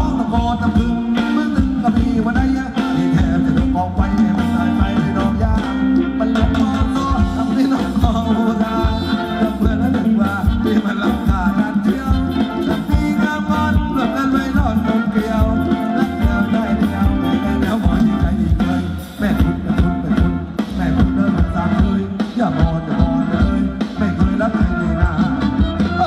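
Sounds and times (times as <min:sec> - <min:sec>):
band playing dance music: 0:00.0 - 0:26.0
person singing: 0:00.0 - 0:26.0
steady drum beat: 0:00.0 - 0:26.0.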